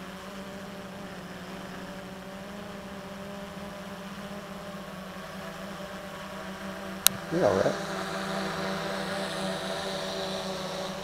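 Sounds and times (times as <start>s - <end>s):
quadcopter propellers humming: 0.0s - 11.0s.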